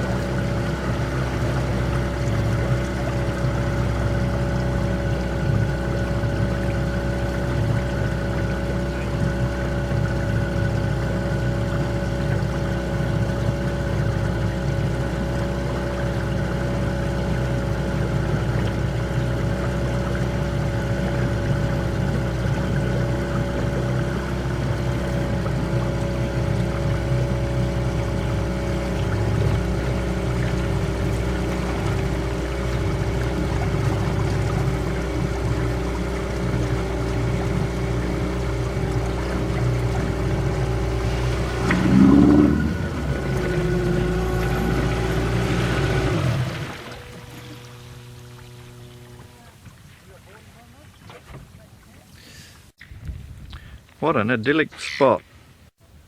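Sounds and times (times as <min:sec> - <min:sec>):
outboard motor running: 0:00.0 - 0:54.2.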